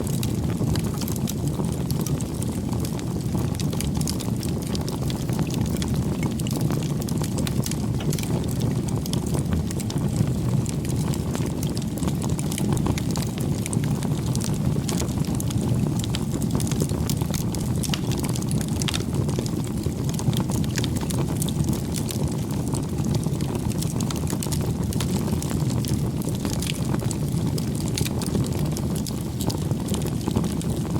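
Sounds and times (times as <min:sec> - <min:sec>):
burning wood crackling and popping: 0:00.0 - 0:30.9
campfire flame rumble: 0:00.0 - 0:30.9.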